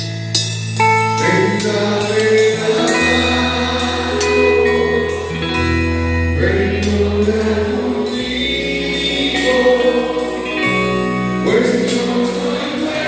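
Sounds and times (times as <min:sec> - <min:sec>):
praise band with sung vocals: 0:00.8 - 0:13.0.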